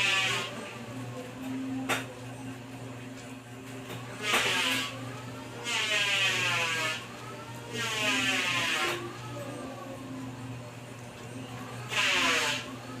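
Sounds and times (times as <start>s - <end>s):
printer humming: 0.0s - 13.0s.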